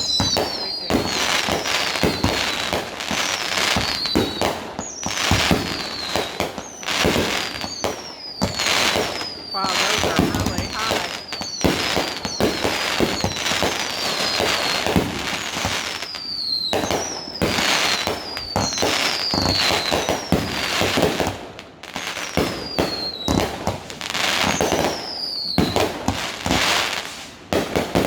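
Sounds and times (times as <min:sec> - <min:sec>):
descending firework whistles: 0:00.0 - 0:28.0
fireworks banging and crackling: 0:00.0 - 0:28.0.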